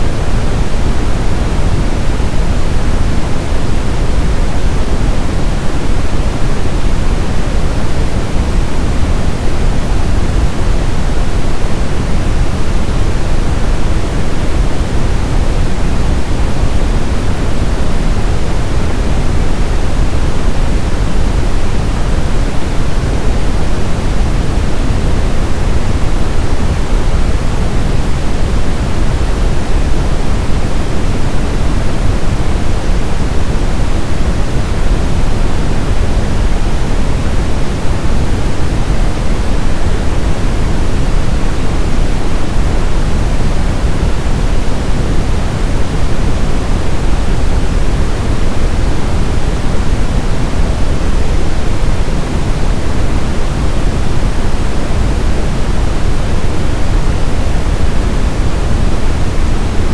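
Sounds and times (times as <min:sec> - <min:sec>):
brown noise: 0:00.0 - 0:59.9.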